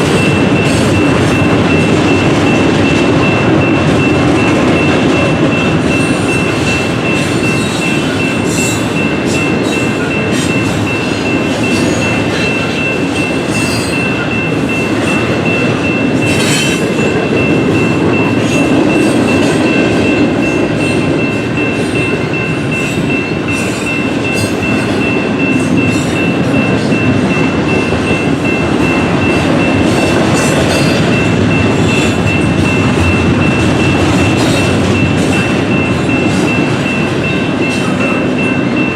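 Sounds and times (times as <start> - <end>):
clicks of train wheels: 0.0 - 38.9
train wheels rumbling on rail: 0.0 - 38.9.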